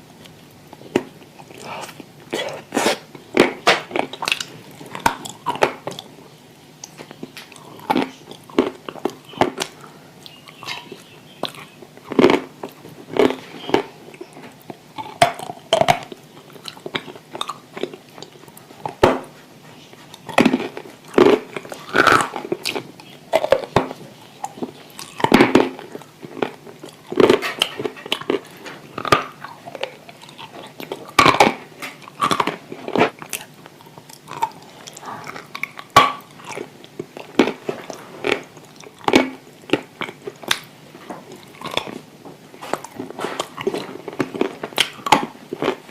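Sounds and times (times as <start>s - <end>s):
crunching and chewing: 0.0s - 45.9s.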